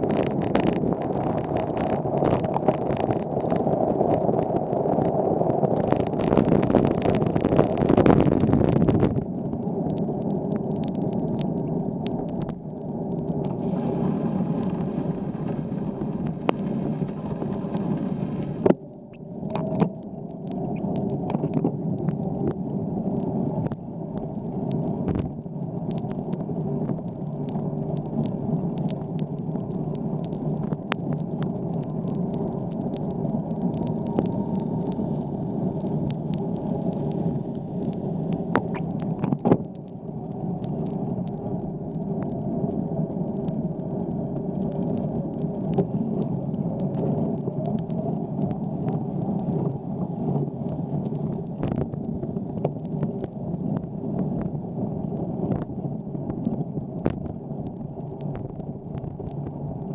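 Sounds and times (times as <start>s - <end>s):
bicycle rumbling on wet pavement: 0.0s - 59.9s.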